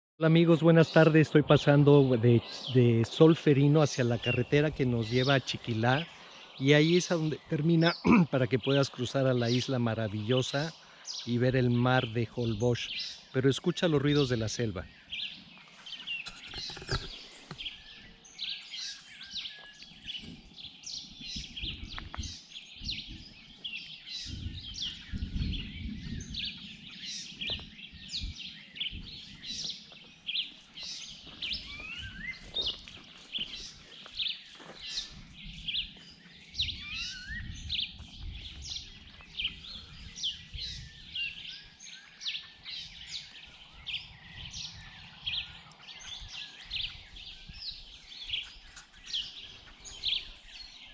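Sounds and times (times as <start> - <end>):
jungle birds chirping: 0.2 - 50.9.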